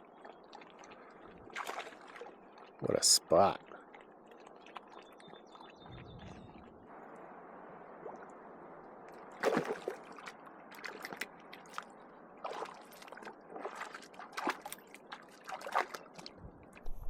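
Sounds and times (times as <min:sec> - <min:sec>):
water splashing and squelching: 0:00.0 - 0:17.0.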